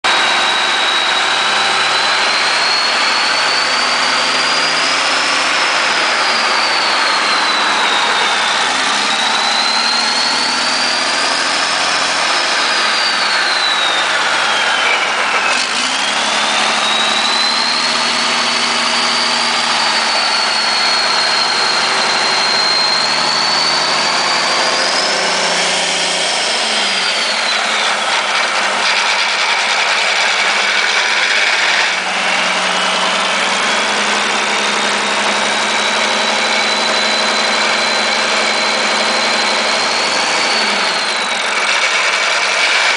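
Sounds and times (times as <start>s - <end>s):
diesel engine running: 0.0s - 42.9s
high engine whine: 0.0s - 42.9s.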